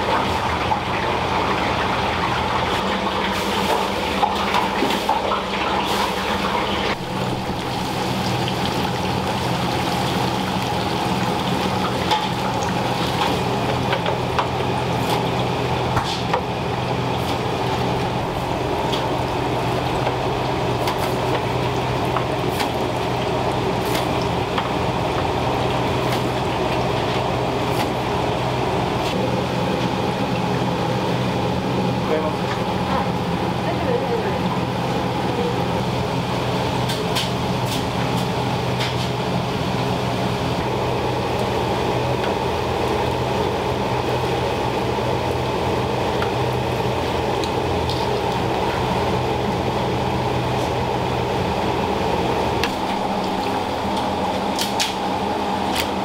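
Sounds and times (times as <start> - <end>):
chicken deep-frying in oil: 0.0 - 56.0
low machine hum: 0.0 - 56.0.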